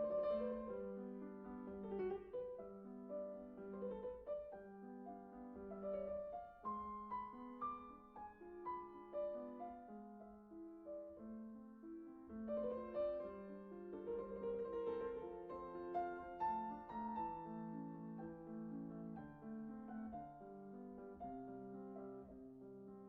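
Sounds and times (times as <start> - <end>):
solo piano classical piece: 0.0 - 23.0.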